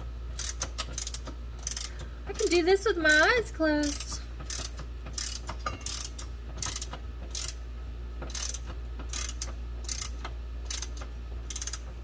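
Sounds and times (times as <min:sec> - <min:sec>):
hand ratchet clicking: 0:00.3 - 0:07.6, 0:08.2 - 0:12.0.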